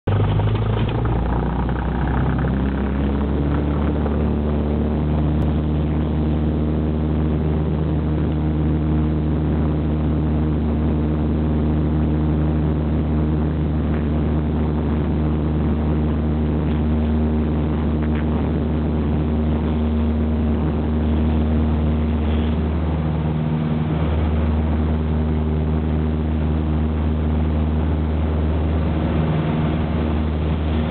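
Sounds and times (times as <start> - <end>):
propeller plane engine droning: 0.0 - 30.9.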